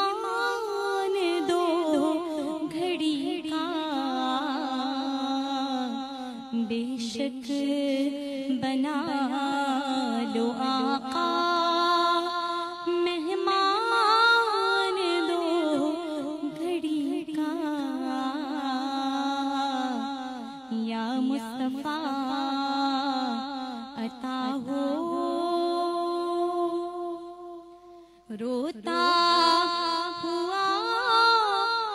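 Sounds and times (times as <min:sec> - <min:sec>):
woman singing ornamented notes: 0:00.0 - 0:31.9.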